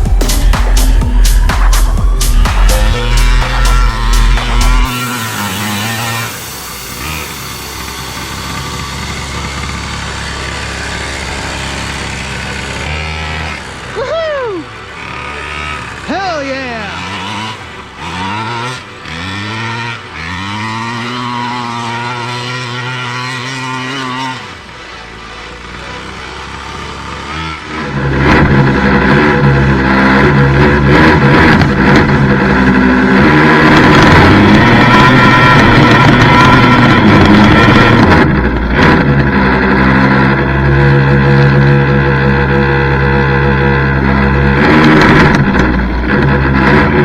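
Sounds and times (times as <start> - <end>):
small gas engine revving: 0.0 - 47.0.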